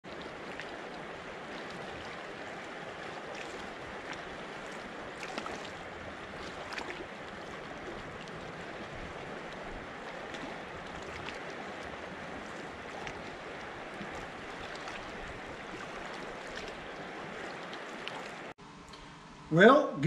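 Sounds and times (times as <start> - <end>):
water splashing and gurgling: 0.0 - 18.6
river water rushing over rocks: 0.1 - 18.6.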